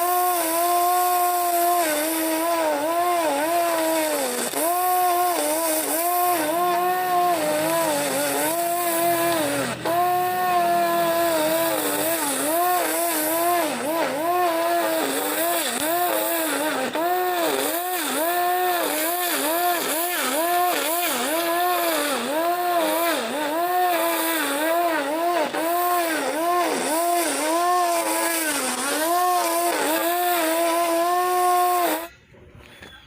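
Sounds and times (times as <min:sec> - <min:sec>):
string trimmer motor whining: 0:00.0 - 0:33.0.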